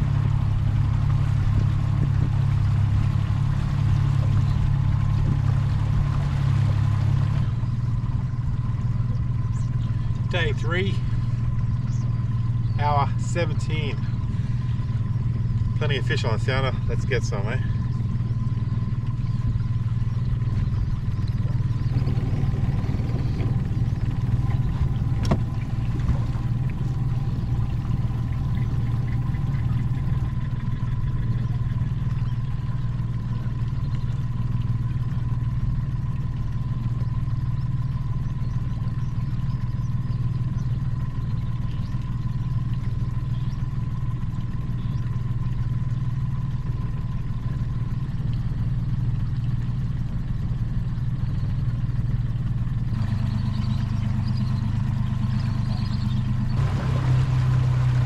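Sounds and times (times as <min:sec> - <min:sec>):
outboard motor droning: 0:00.0 - 0:58.0.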